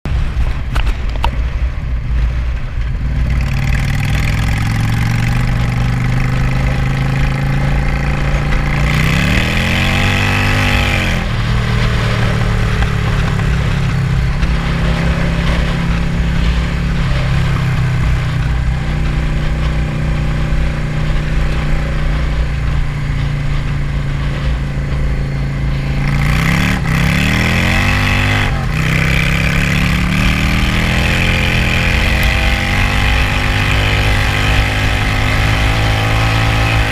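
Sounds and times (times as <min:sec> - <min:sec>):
car engine revving: 0:02.3 - 0:36.9.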